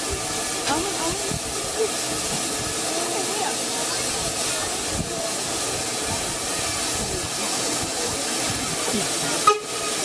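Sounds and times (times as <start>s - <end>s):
steam hissing from locomotive: 0.0s - 10.0s.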